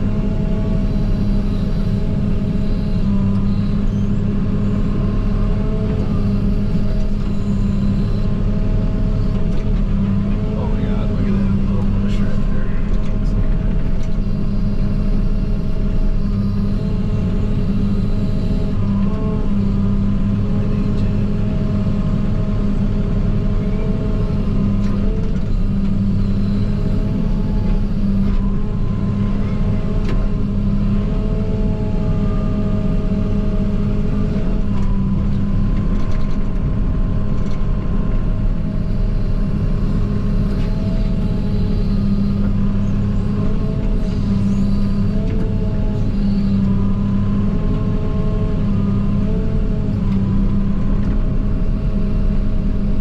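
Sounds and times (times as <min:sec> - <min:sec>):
diesel engine under load: 0:00.0 - 0:53.0
hydraulic whine wavering in pitch: 0:00.0 - 0:53.0.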